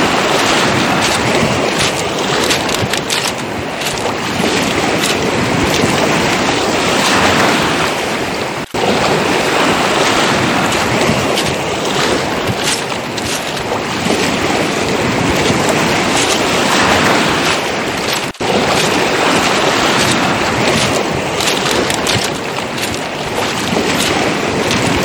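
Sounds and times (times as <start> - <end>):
waves washing on shore: 0.0 - 25.0
footsteps crunching on pebbles: 0.4 - 7.4, 10.2 - 25.0.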